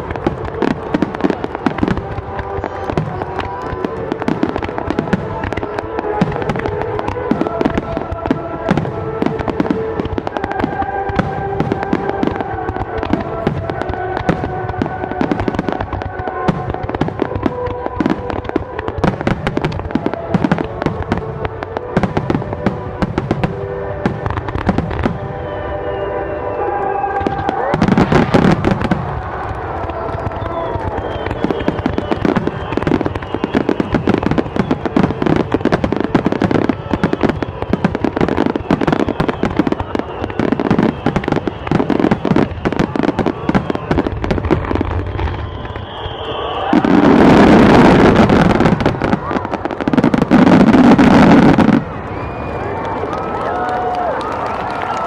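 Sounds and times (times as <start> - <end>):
music with held notes: 0.0 - 45.0
fireworks bangs and crackles: 0.0 - 55.0.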